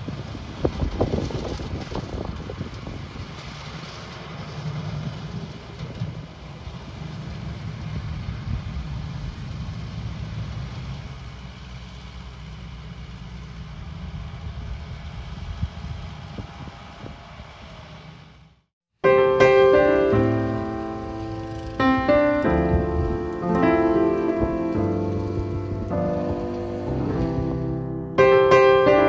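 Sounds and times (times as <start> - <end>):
wind buffeting microphone: 0.0 - 10.9, 13.8 - 18.0, 20.0 - 29.0
rotary mower cutting grass: 0.0 - 18.5, 19.4 - 29.0
tractor engine running: 0.0 - 18.6, 19.5 - 29.0.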